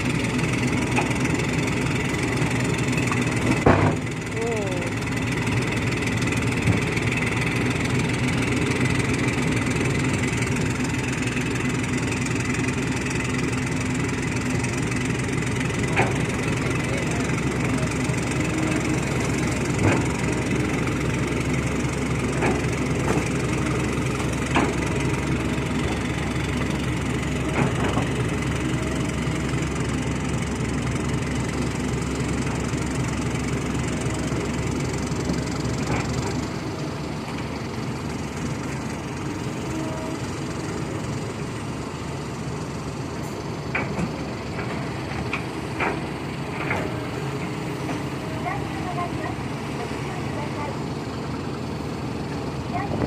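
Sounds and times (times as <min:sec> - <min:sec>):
diesel truck engines running: 0:00.0 - 0:53.0.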